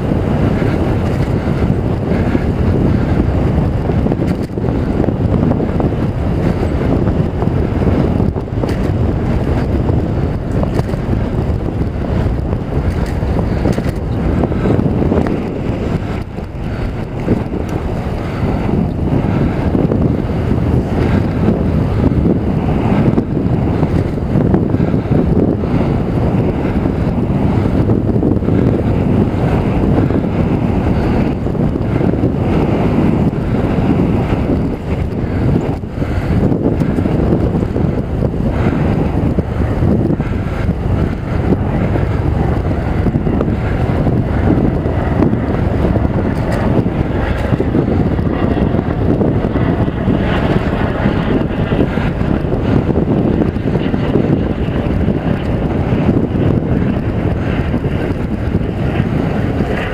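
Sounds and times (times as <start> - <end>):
wind rush on microphone: 0.0 - 59.9.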